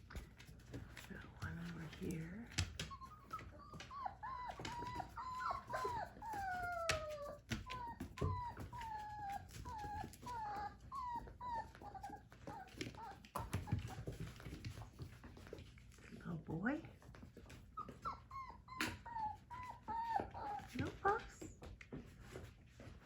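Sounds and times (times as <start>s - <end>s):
puppies whining: 0.1s - 15.7s, 17.1s - 22.9s.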